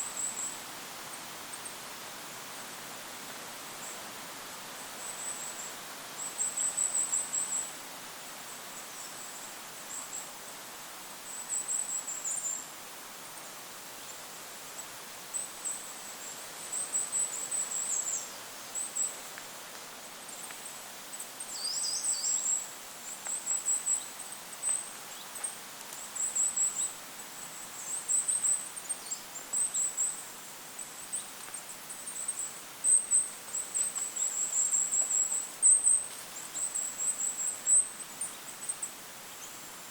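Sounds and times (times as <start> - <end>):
wind hiss: 0.0 - 39.9.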